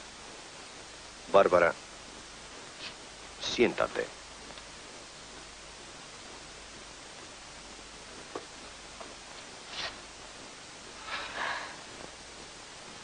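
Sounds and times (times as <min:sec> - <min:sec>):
television soundtrack hiss: 0:00.0 - 0:13.0.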